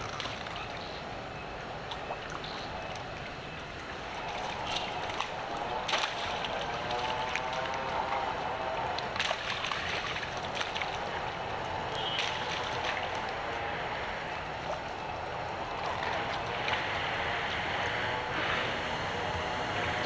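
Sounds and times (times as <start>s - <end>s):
monkeys splashing in a puddle: 0.0s - 19.3s.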